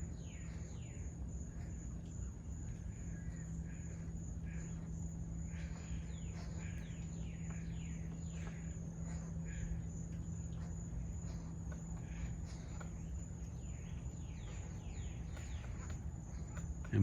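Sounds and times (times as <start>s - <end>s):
birds chirping: 0.0s - 17.0s
high insect drone: 0.0s - 17.0s
low hum: 0.0s - 17.0s.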